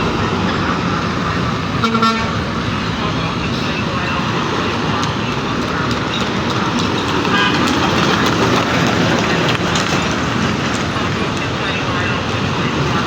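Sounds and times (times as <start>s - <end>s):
diesel truck engines rumbling: 0.0s - 13.0s
tyre noise: 0.0s - 13.0s.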